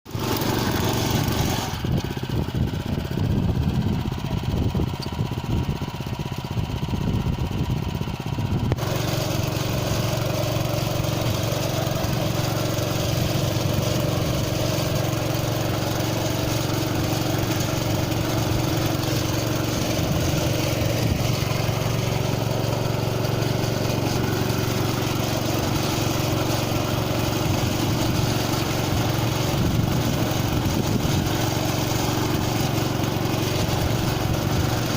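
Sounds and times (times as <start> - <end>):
small engine running: 0.1 - 34.9.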